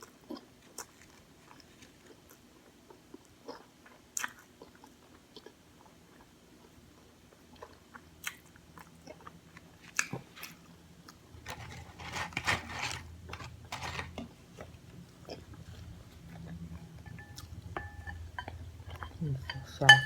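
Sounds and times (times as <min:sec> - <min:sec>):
crunchy taco shell chewing: 0:00.0 - 0:06.3, 0:07.6 - 0:17.5.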